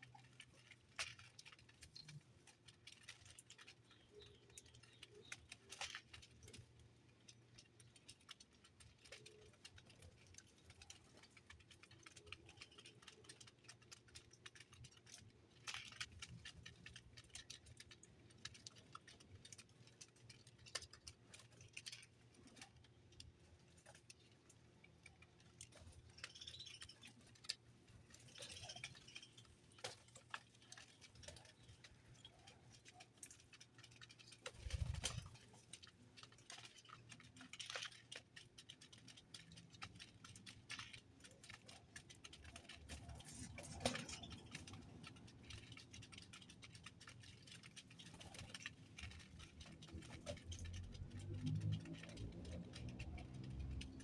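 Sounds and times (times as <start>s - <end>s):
birds pecking at a feeder: 1.5s - 54.0s.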